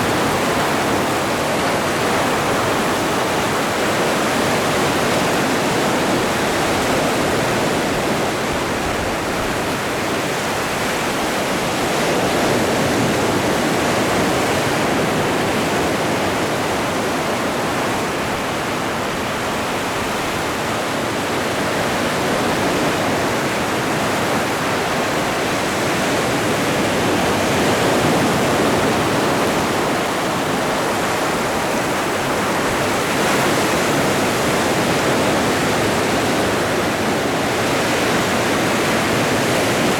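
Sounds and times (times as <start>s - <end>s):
ocean surf washing onto shore: 0.0s - 39.9s.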